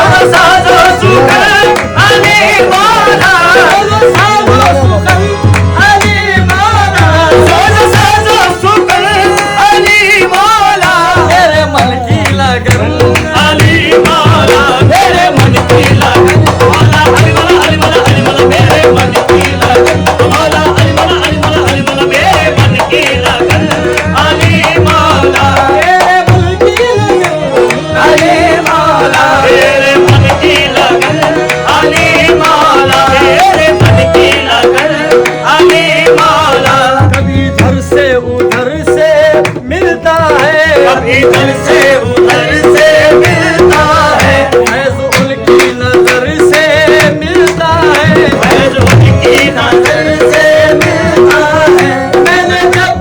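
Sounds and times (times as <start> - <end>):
harmonium melody: 0.0 - 53.0
tabla rhythm: 0.0 - 53.0.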